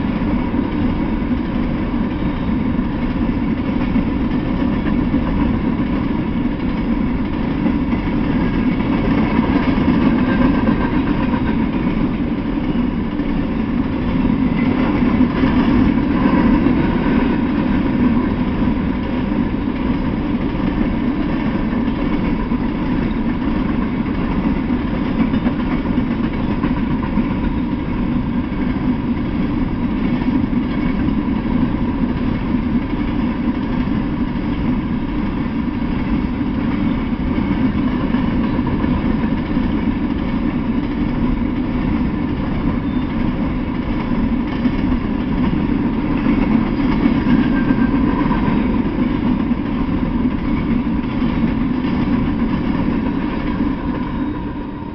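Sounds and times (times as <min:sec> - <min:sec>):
freight train wheels rumbling on rails: 0:00.0 - 0:54.9.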